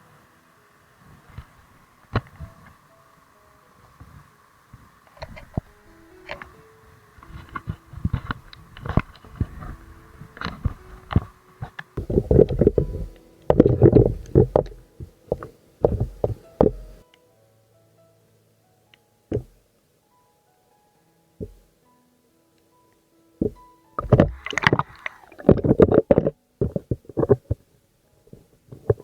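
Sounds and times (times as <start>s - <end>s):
background music with held notes: 0.0s - 29.0s.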